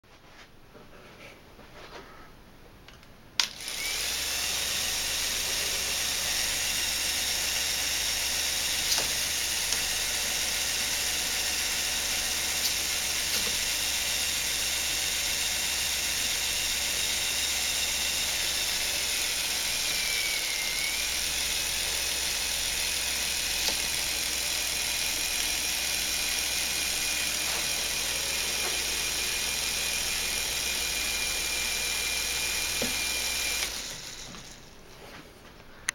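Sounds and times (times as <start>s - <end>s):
toy engine whirring and whining: 3.4s - 34.8s.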